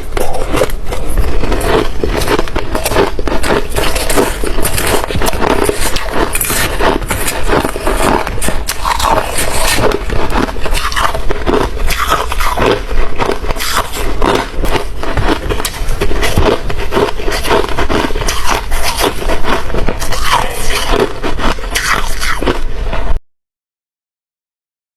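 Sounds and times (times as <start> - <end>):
ice being chewed: 0.0 - 23.2.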